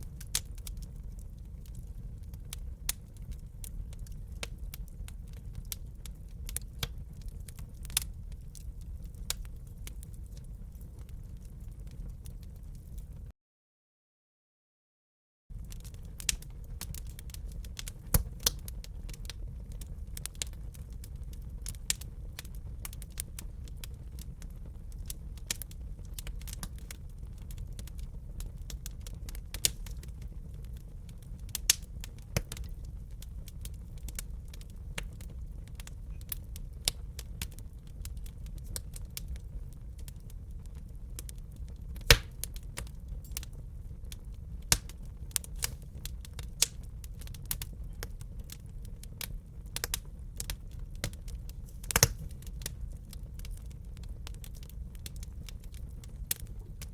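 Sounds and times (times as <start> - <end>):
low rumble of fire: 0.0 - 13.3, 15.5 - 56.9
wood fire crackling: 0.0 - 13.3, 15.5 - 56.9.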